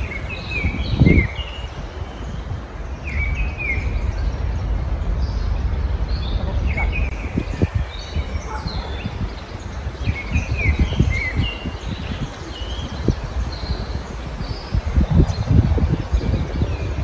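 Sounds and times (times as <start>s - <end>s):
songbirds chirping and singing: 0.0s - 17.0s
steady low rumble: 0.0s - 17.0s.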